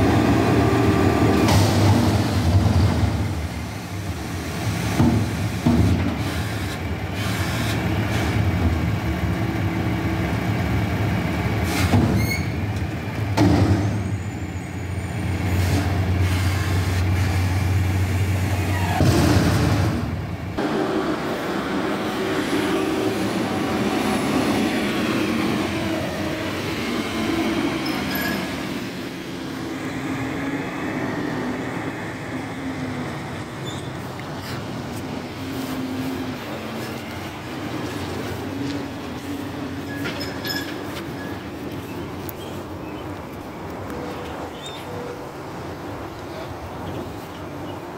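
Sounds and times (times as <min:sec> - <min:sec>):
garbage truck diesel engine: 0:00.0 - 0:45.1.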